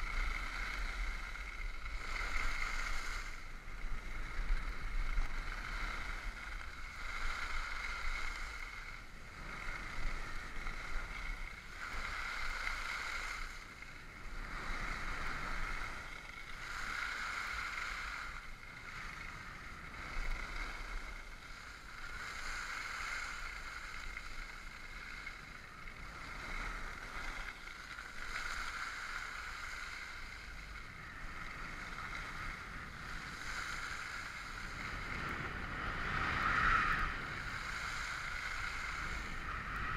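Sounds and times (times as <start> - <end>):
skis scraping over snow: 0.0 - 39.9
wind rumbling on microphone: 0.0 - 39.9.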